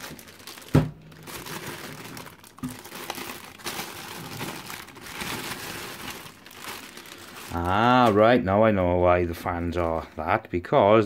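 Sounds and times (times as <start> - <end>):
plastic bag crinkling: 0.0 - 8.4, 9.4 - 10.2.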